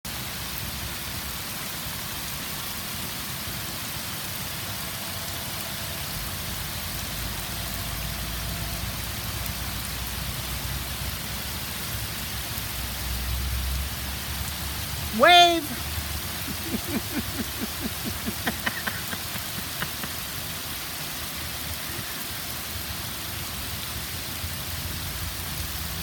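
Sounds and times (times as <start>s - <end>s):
heavy rain hissing: 0.1s - 26.0s.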